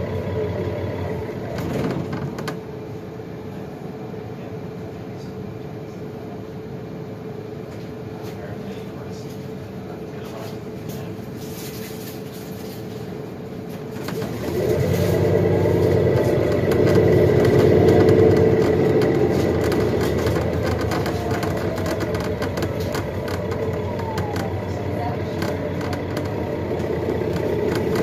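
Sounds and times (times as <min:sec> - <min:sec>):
bus drive whine: 0:00.0 - 0:28.0.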